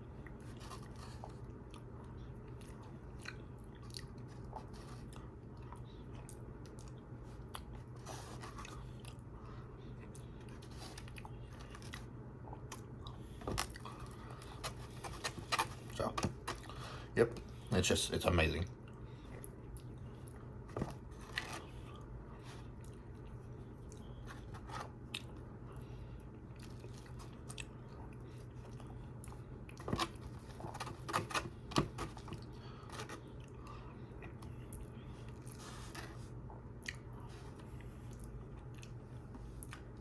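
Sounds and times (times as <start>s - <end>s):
person chewing food: 0.0s - 17.0s, 21.2s - 30.9s, 32.1s - 35.6s, 36.2s - 40.0s
steady low hum: 0.0s - 40.0s.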